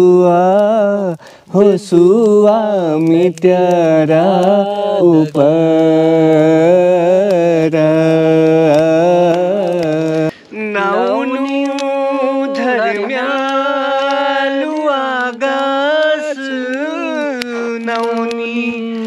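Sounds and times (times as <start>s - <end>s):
person singing folk song: 0.0s - 19.0s.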